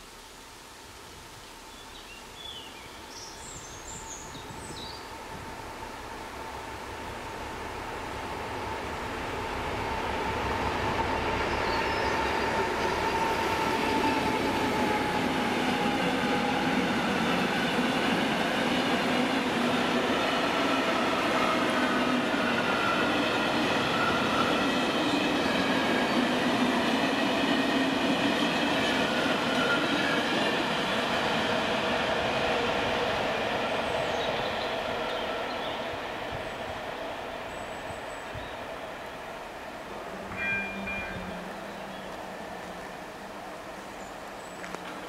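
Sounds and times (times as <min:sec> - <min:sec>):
freight train wheels rumbling: 0:03.7 - 0:45.0.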